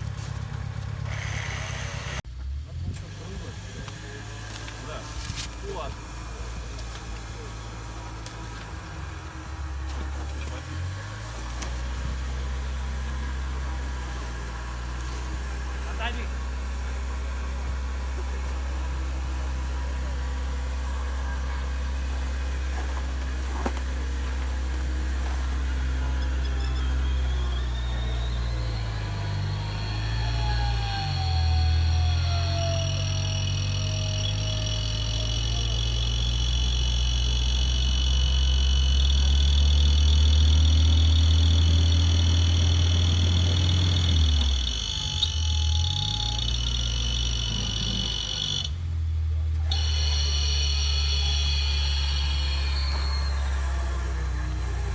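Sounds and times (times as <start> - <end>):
vehicle engine droning: 0.0 - 54.9.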